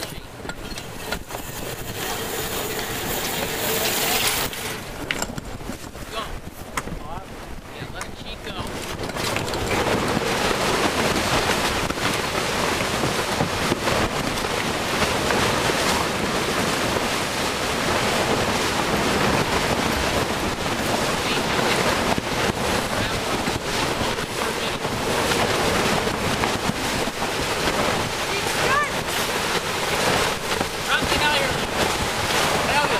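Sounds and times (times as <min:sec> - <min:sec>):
water rushing along a hull: 0:00.0 - 0:32.9
wind noise on microphone: 0:00.0 - 0:32.9.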